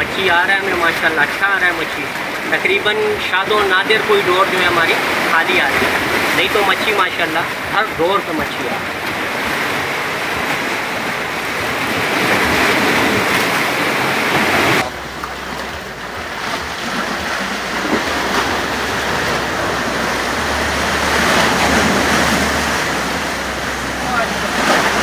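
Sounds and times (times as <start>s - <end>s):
sea water rushing: 0.0s - 25.0s.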